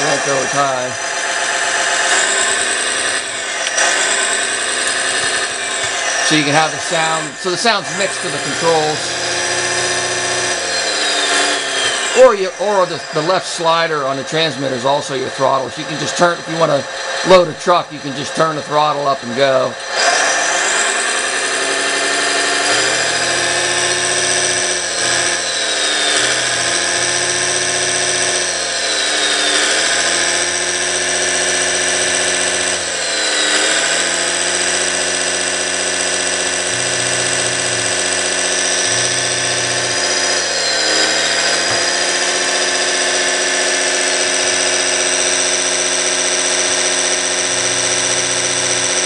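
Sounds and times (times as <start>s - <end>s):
simulated diesel engine: 0.0s - 49.0s.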